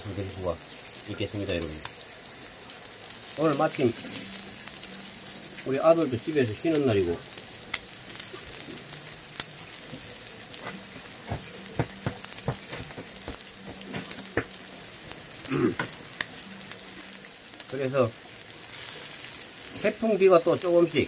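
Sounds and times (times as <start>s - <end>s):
meat sizzling on griddle: 0.0s - 21.0s.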